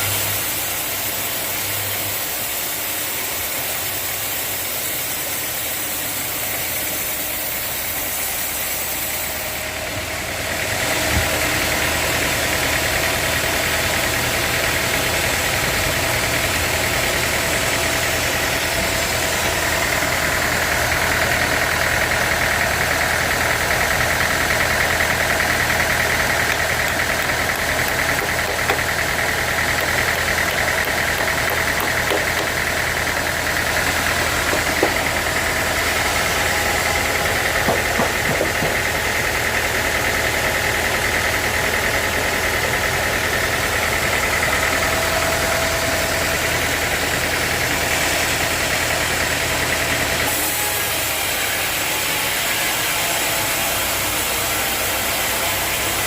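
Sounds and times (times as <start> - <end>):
high saw whine: 0.0 - 56.0
sawmill saw cutting log: 0.0 - 56.0.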